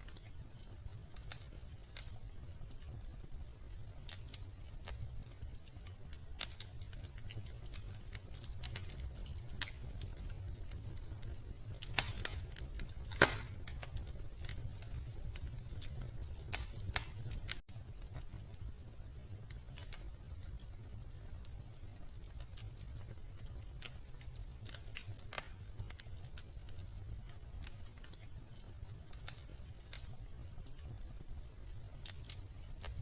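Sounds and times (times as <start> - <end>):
sharp pops of fire: 0.0 - 33.0
wood fire crackling: 0.0 - 33.0.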